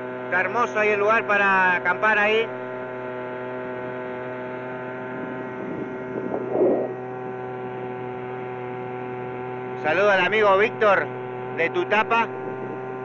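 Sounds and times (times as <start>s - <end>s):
small boat motor humming: 0.0s - 13.0s.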